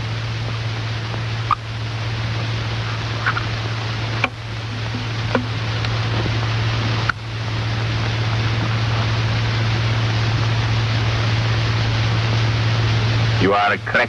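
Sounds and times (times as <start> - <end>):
film soundtrack hiss: 0.0 - 14.0
low hum: 0.0 - 14.0.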